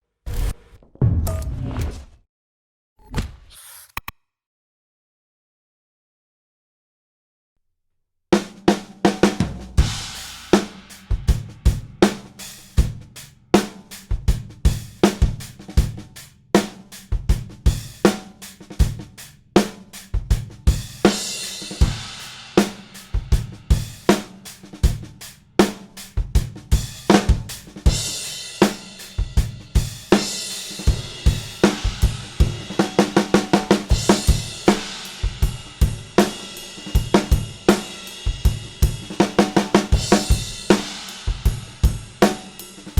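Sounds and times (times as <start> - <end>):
snare drum groove: 8.4 - 42.9.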